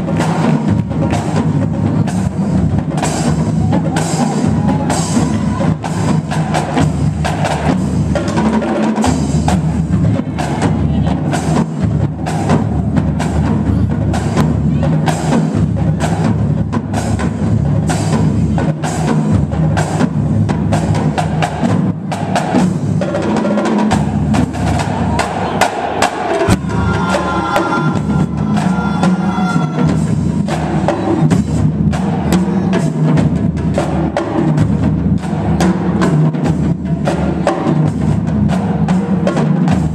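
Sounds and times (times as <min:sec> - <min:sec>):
marching drumline cadence: 0:00.0 - 0:39.9.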